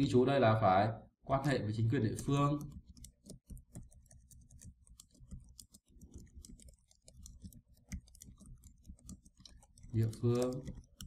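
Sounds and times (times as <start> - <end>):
keyboard typing: 1.4 - 11.0.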